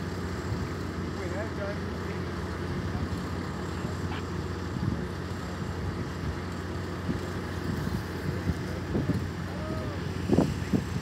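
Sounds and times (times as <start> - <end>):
heavy equipment engine droning: 0.0 - 11.0.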